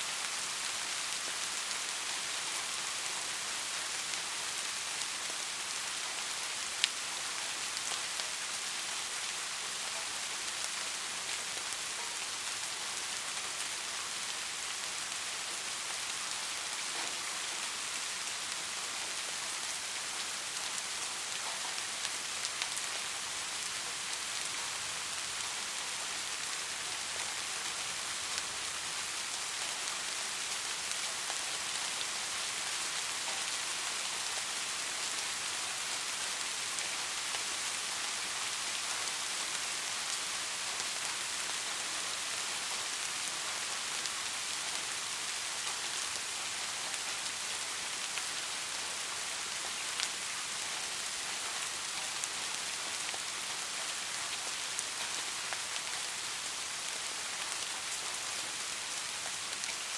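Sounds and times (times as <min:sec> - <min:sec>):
steady rain hiss: 0:00.0 - 0:59.9
raindrops ticking on a surface: 0:00.1 - 0:59.9.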